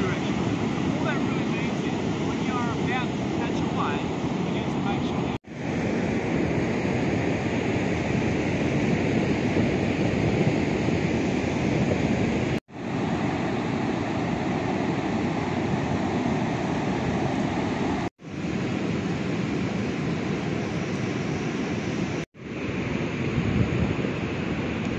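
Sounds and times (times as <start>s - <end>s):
ocean surf breaking: 0.0s - 24.9s
wind buffeting microphone: 0.0s - 24.9s.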